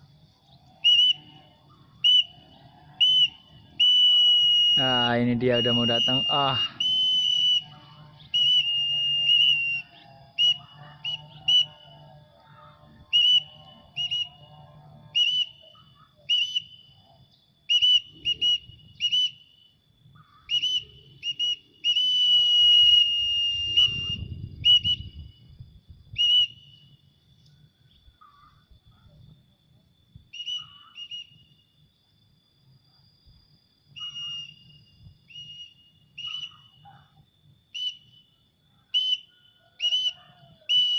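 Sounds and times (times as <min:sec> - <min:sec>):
high whistled calls: 0:00.0 - 0:27.1, 0:30.2 - 0:31.7, 0:33.9 - 0:40.9.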